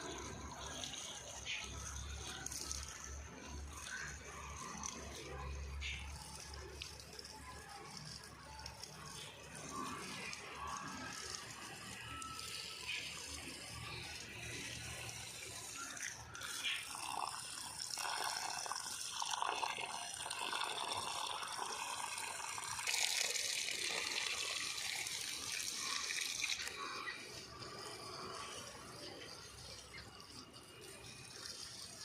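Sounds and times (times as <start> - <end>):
water running and splashing: 0.0 - 32.0.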